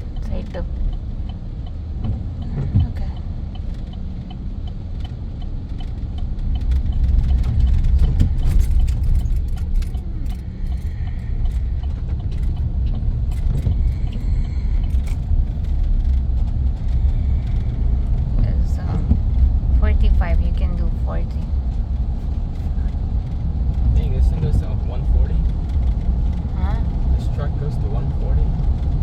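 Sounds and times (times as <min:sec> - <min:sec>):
light ticking: 0:00.0 - 0:29.0
rattles inside truck cab: 0:00.0 - 0:29.0
truck engine and road noise: 0:00.0 - 0:29.0.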